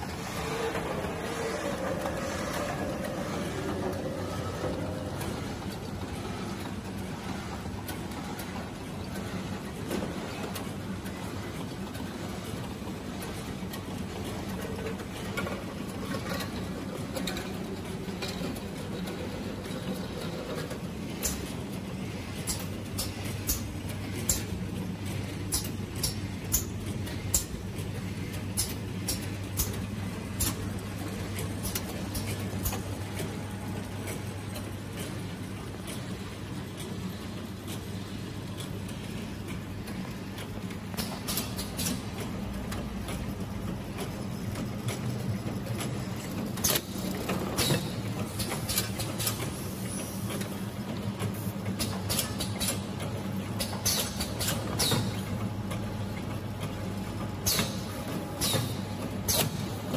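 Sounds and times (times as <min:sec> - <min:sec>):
machine hum: 0:00.0 - 0:48.3.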